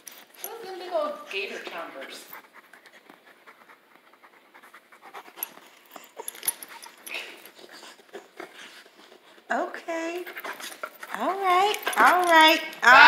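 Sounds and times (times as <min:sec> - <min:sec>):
dogs panting: 0:00.1 - 0:13.0.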